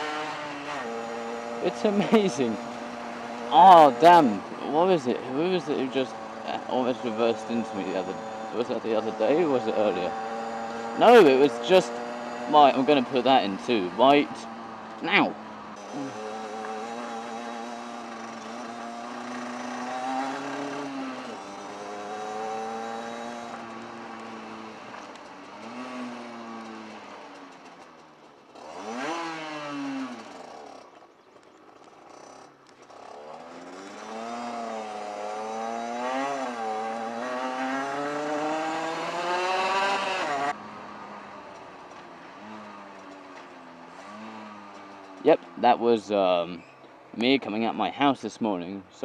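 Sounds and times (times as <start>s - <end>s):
motorcycle engine revving: 0.0s - 47.8s.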